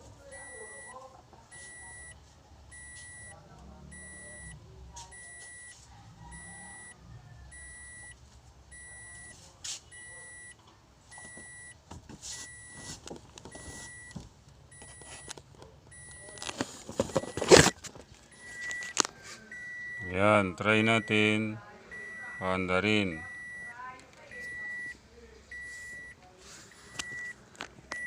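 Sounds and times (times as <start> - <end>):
car warning chime beeping: 0.2 - 11.8, 12.4 - 16.4, 17.1 - 28.0.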